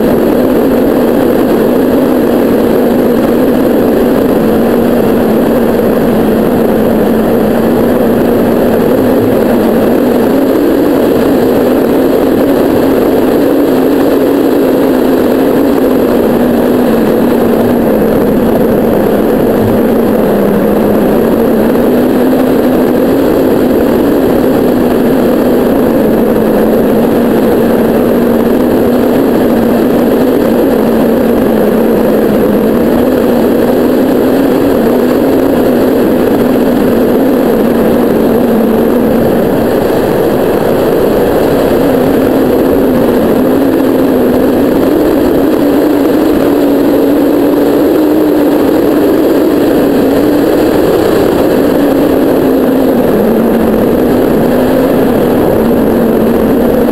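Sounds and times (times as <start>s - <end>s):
loud wind noise: 0.0s - 56.9s
low hum: 0.0s - 56.9s.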